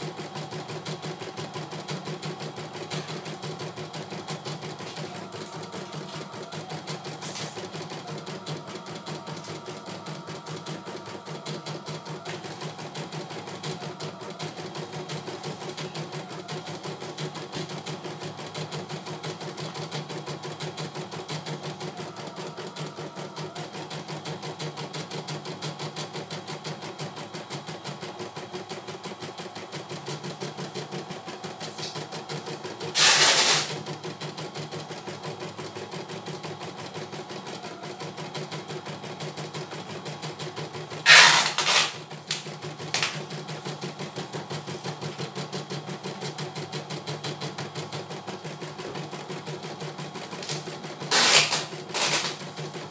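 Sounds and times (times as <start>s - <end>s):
embroidery machine stitching: 0.0s - 52.9s.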